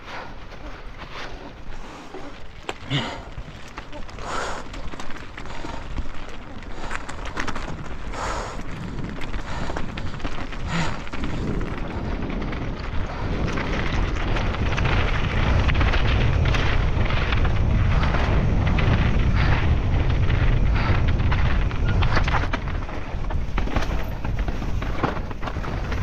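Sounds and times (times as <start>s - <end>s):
bike tyres clattering on rough ground: 0.0s - 26.0s
wind buffeting microphone: 0.0s - 26.0s.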